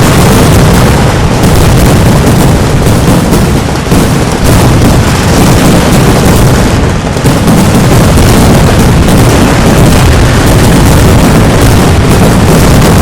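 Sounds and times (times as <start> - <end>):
fireworks barrage: 0.0 - 13.0.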